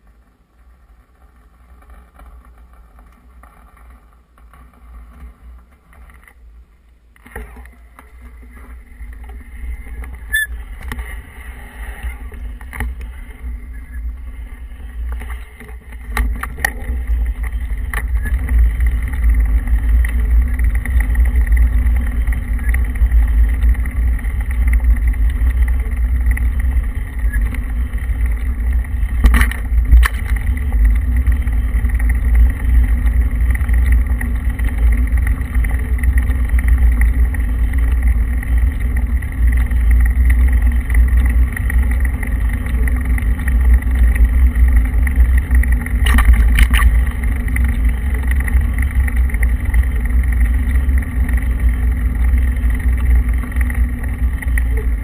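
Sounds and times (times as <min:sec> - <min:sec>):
tyres rolling over rough road: 0:00.0 - 0:55.0.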